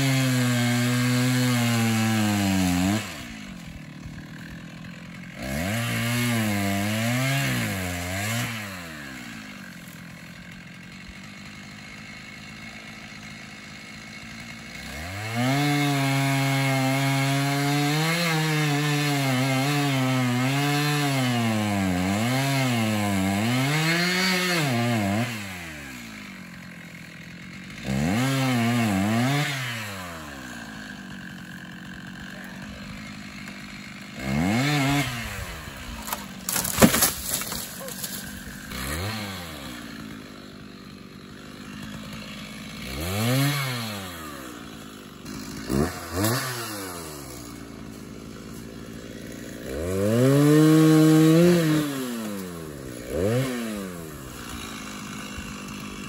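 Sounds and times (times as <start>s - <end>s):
chainsaw cutting into tree: 0.0s - 56.0s
chainsaw idling: 0.0s - 56.0s.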